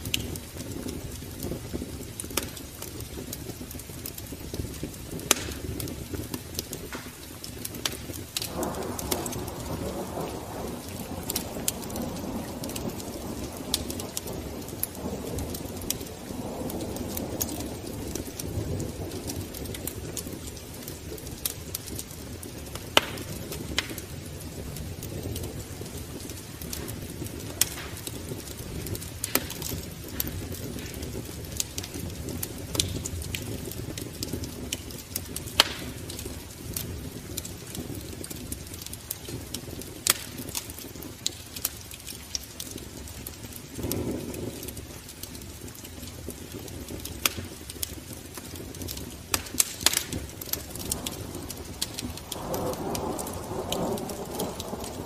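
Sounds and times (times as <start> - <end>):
low fire rumble: 0.0 - 55.0
wood fire crackling: 0.0 - 55.0.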